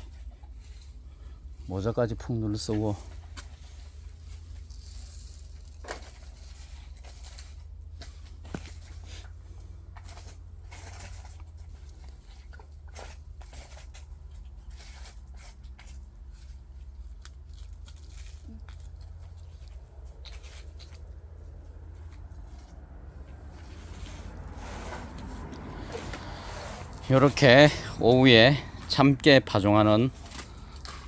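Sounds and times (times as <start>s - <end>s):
soil rustling and scraping: 0.0s - 31.0s.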